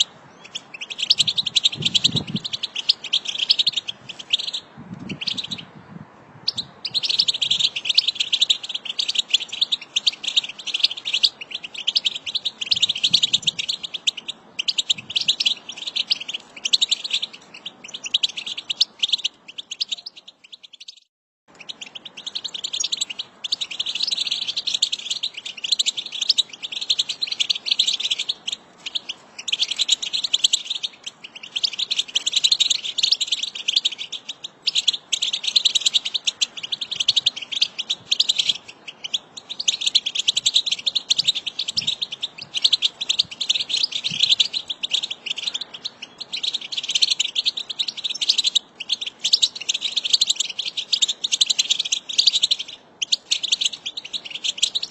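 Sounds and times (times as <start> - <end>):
finches twittering: 0.0 - 5.8, 6.4 - 54.9.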